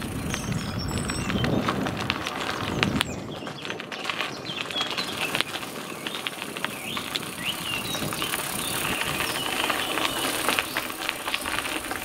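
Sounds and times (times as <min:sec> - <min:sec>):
birds chirping: 0:00.0 - 0:12.0
steady rushing noise: 0:00.0 - 0:12.0.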